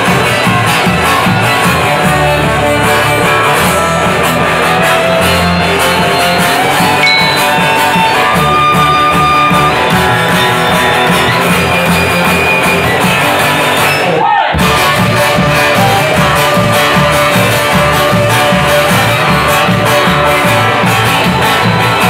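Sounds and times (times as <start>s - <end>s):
double bass: 0.0s - 14.0s, 14.6s - 22.0s
electric guitar: 0.0s - 22.0s
rock band playing loudly: 0.0s - 22.0s.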